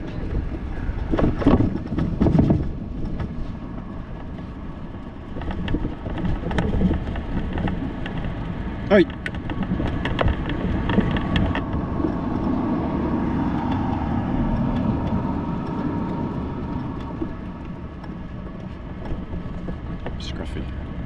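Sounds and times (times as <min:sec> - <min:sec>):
street traffic: 0:00.0 - 0:21.0
vehicle passing: 0:00.0 - 0:21.0.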